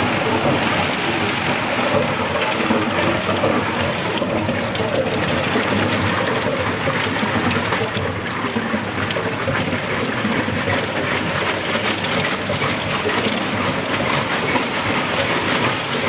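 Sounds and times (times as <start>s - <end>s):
ice machine rushing and clattering: 0.0s - 16.0s.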